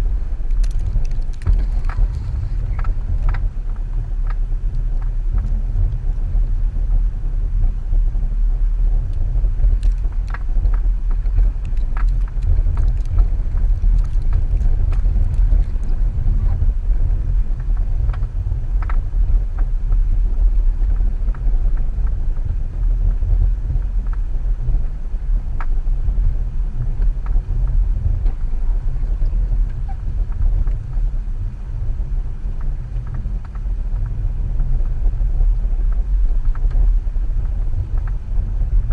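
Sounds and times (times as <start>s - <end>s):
car driving deep rumble: 0.0s - 38.9s.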